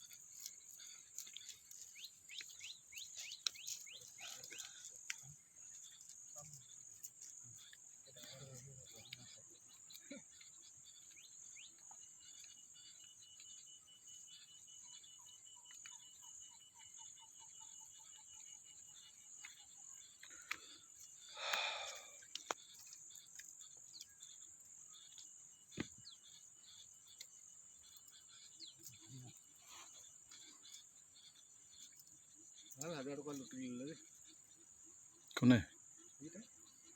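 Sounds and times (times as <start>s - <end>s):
high-pitched insect trill: 0.0s - 36.9s.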